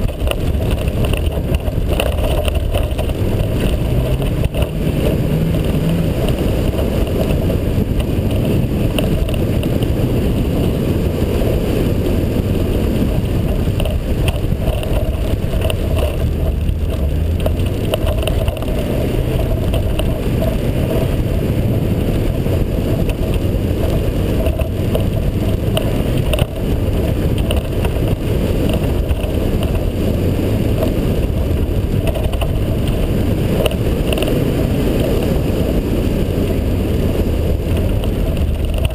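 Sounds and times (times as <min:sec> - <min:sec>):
car engine rumbling: 0:00.0 - 0:38.9
tyres churning through snow: 0:00.0 - 0:38.9.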